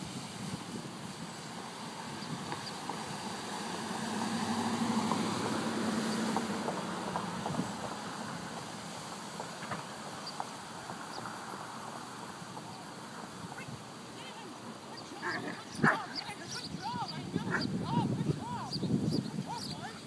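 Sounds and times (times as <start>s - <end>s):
car engine hum passing: 0.0s - 20.0s.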